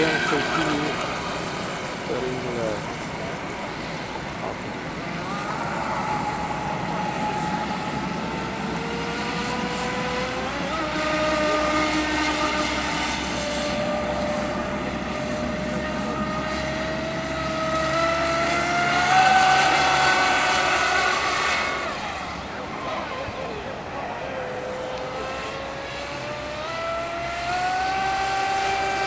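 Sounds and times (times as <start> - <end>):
electric boat motor whining: 0.0 - 29.0.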